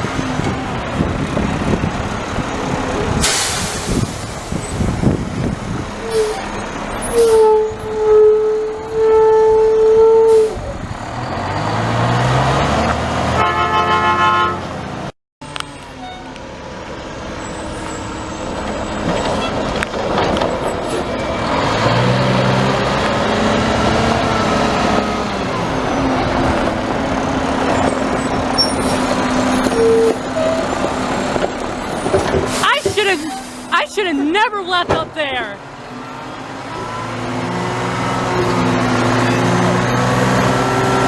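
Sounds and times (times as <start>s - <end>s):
garbage truck engine revving: 0.0s - 13.4s, 14.7s - 41.0s.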